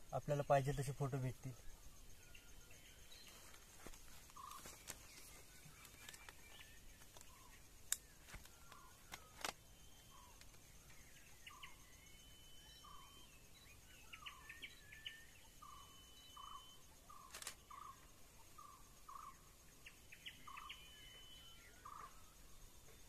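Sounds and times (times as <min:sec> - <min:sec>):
distant birds calling: 0:00.0 - 0:23.0.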